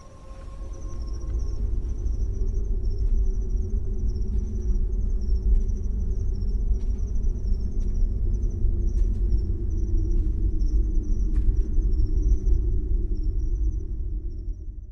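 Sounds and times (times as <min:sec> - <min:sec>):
crickets chirping: 0:00.0 - 0:14.9
low rumbling drone: 0:00.0 - 0:14.9.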